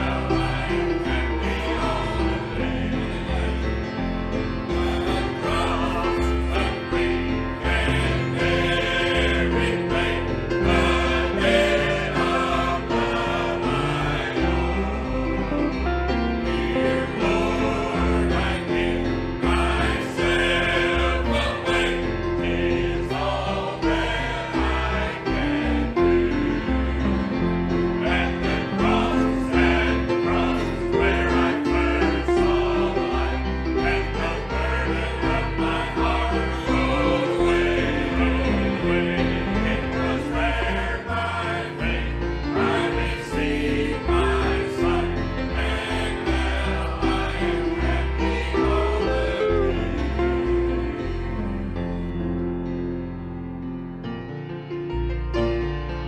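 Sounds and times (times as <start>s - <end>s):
choir singing gospel: 0.0s - 52.4s.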